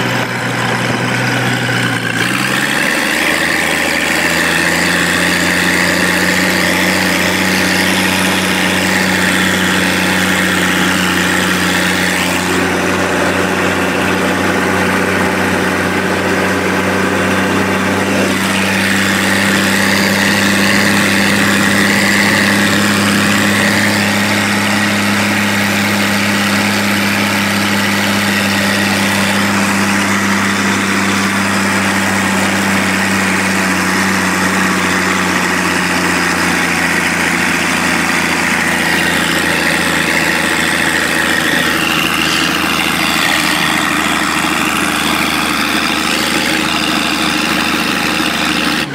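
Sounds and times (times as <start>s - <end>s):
tractor engine under heavy load: 0.0s - 48.9s.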